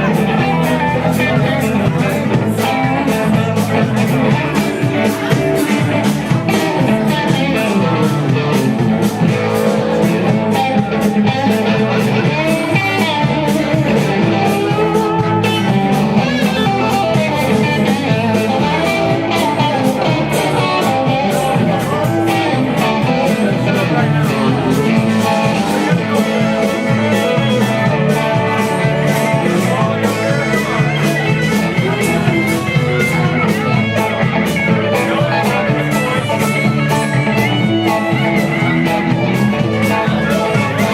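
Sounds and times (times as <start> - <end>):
country-rock band playing: 0.0 - 40.9
electric guitar playing: 0.0 - 40.9.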